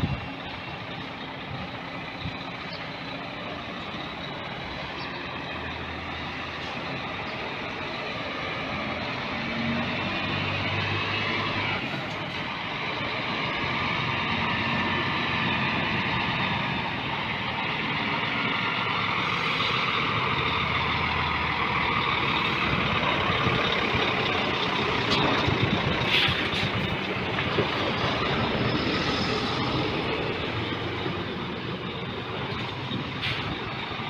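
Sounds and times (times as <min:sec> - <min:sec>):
diesel truck engine running: 0:00.0 - 0:34.0.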